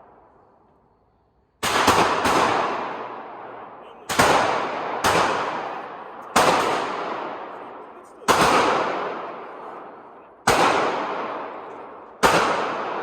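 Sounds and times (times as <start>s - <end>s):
pistol shots with echo: 1.6s - 13.0s.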